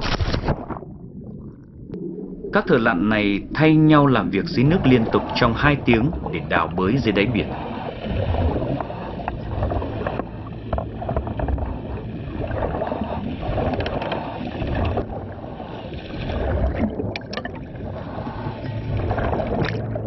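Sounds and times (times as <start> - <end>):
underwater rumble and gurgling: 0.0 - 20.0.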